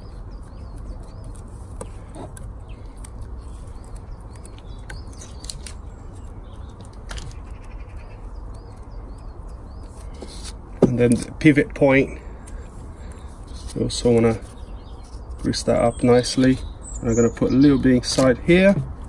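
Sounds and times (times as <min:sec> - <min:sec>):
small bird chirping: 0:00.0 - 0:12.2, 0:13.0 - 0:19.0.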